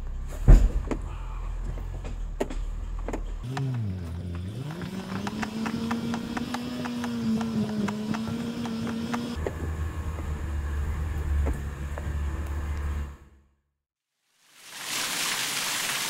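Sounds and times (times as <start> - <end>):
car engine running: 0.0 - 13.6.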